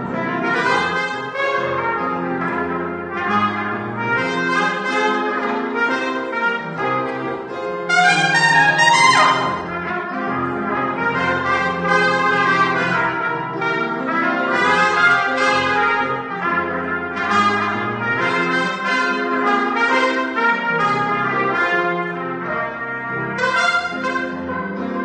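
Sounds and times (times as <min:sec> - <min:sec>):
piano accompaniment: 0:00.0 - 0:25.0
trumpets playing a duet: 0:00.0 - 0:25.0.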